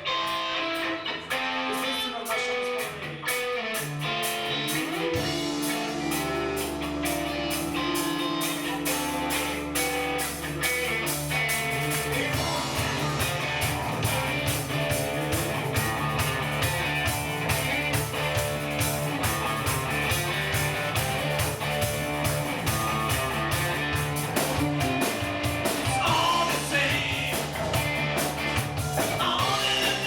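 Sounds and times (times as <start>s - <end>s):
electric guitar: 0.0s - 30.0s
drums beating: 3.8s - 30.0s.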